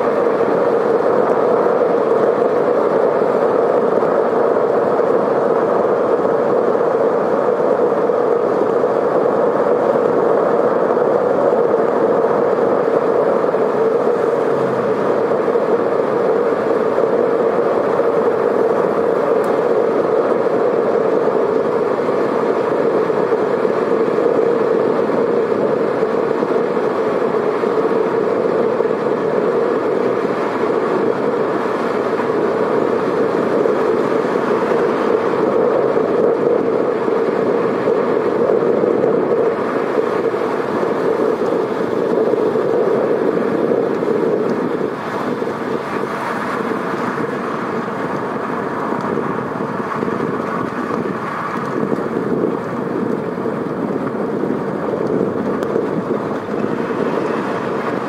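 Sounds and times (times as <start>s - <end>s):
rain: 0.0s - 58.0s
tyres on wet pavement: 0.0s - 58.0s.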